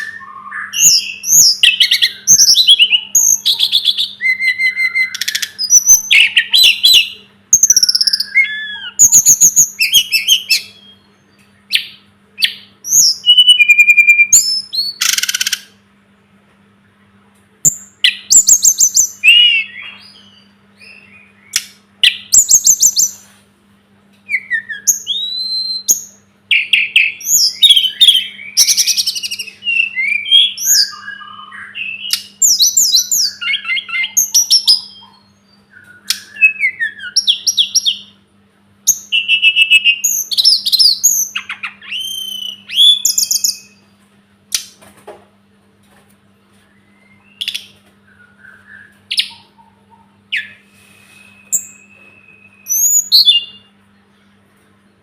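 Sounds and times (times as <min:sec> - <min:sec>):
bird whistles trills and chirps: 0:00.0 - 0:15.8, 0:17.7 - 0:23.2, 0:24.3 - 0:38.2, 0:38.9 - 0:43.9, 0:46.6 - 0:53.7
faint electrical hum: 0:00.0 - 0:55.0.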